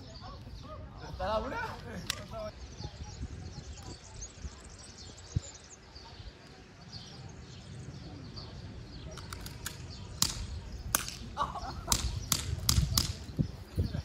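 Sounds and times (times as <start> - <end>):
birds chirping faintly: 0.0 - 14.0
low wind rumble on microphone: 0.0 - 14.0.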